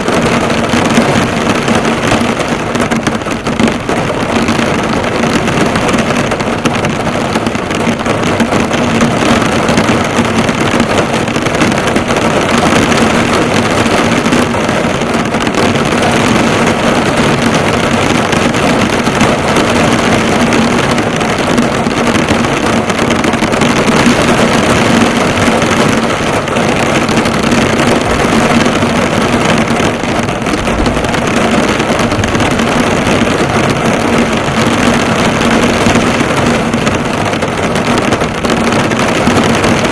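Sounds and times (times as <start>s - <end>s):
heavy rain drumming on car: 0.0s - 39.9s.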